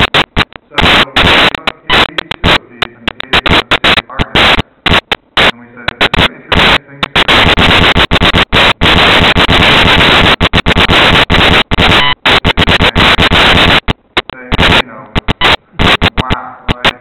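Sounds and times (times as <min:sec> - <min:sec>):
harsh static noise: 0:00.0 - 0:17.0.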